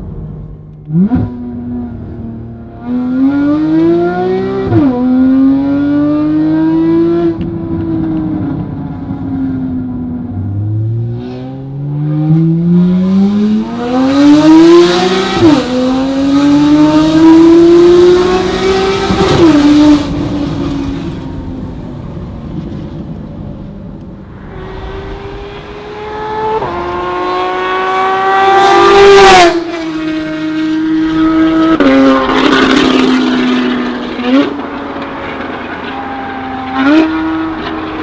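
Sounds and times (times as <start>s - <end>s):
sports car engine accelerating: 0.0s - 23.2s, 24.2s - 38.0s.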